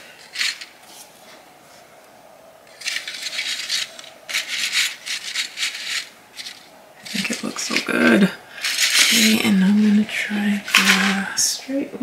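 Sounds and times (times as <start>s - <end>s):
dry leaves rustling and scraping: 0.0s - 1.9s, 2.7s - 11.5s.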